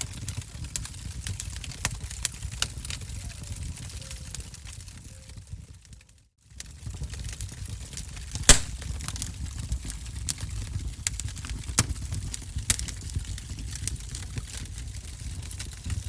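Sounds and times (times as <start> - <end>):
wood fire crackling and popping: 0.0 - 3.1, 5.9 - 16.0
low rumble of flames: 0.0 - 16.0.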